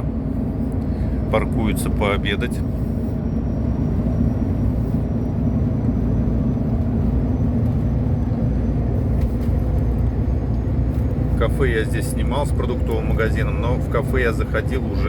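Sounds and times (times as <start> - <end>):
truck engine and tyre drone: 0.0 - 15.0.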